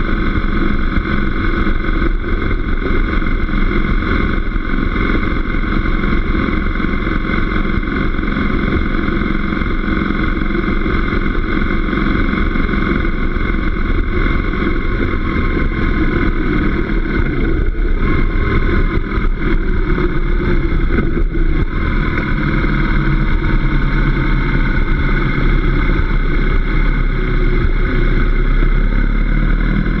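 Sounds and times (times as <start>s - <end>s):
motorcycle engine running: 0.0s - 30.0s
road noise: 0.0s - 30.0s.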